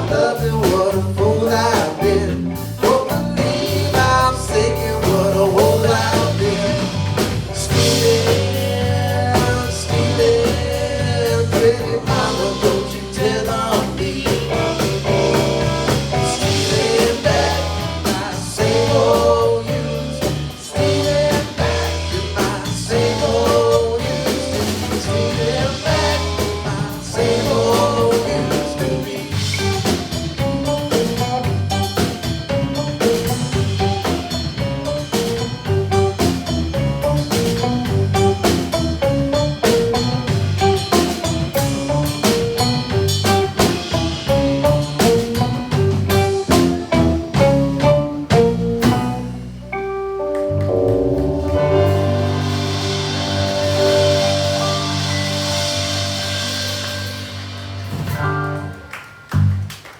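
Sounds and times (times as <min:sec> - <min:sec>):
drum kit beat: 0:00.0 - 0:59.9
live blues band playing: 0:00.0 - 0:59.9.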